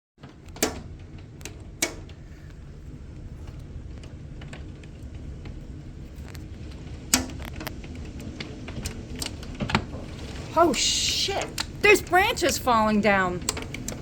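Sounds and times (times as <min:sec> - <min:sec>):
debris or hail tapping house: 0:00.2 - 0:14.0
storm wind rumbling: 0:00.8 - 0:14.0.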